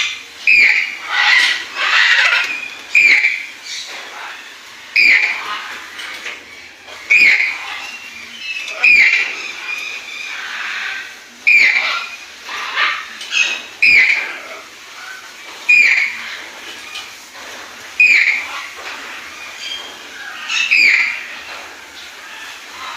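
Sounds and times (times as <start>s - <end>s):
toucan calling: 0.0s - 17.1s, 18.0s - 21.5s.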